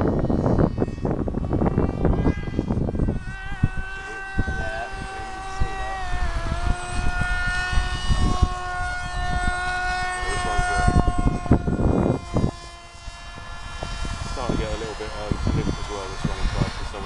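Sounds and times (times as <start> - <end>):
rc plane motor whining: 0.0 - 17.0
wind buffeting microphone: 0.0 - 17.0.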